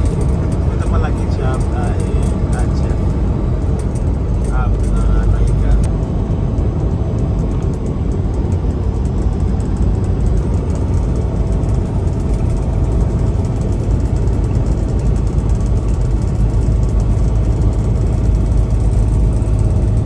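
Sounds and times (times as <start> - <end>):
diesel truck engine rumble: 0.0 - 20.0
road noise: 0.0 - 20.0.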